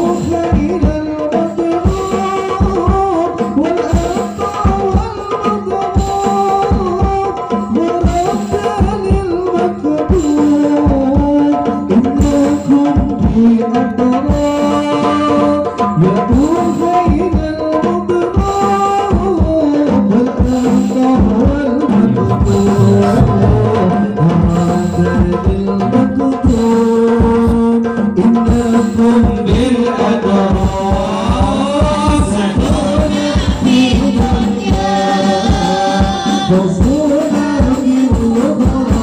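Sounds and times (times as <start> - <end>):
frame drums beating: 0.0 - 39.0
voices singing into microphones: 0.0 - 39.0.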